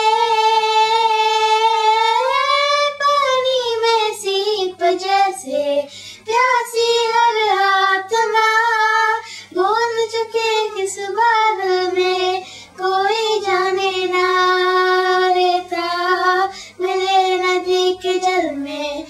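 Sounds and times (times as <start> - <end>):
girl singing unaccompanied: 0.0 - 19.0.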